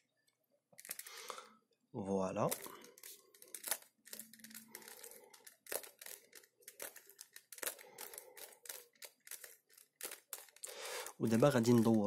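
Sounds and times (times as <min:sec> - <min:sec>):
puzzle cube clicking: 0:00.8 - 0:01.2, 0:02.5 - 0:12.0.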